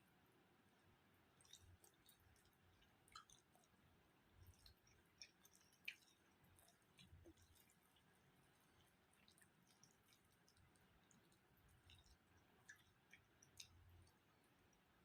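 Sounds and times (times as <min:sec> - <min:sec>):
wet clicks and squishes of food: 0:01.2 - 0:15.0
quiet chewing: 0:01.4 - 0:15.0.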